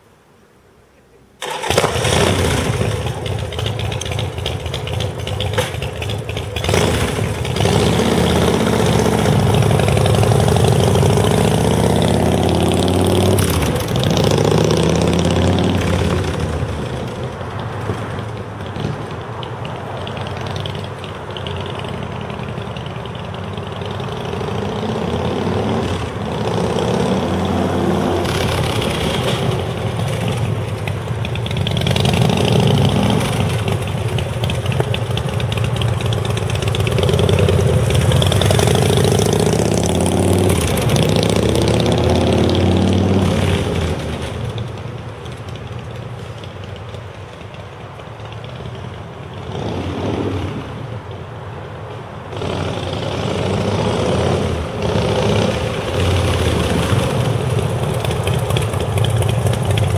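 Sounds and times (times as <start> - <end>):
motorcycle engine revving: 1.4 - 19.2, 20.1 - 44.9, 52.3 - 59.9.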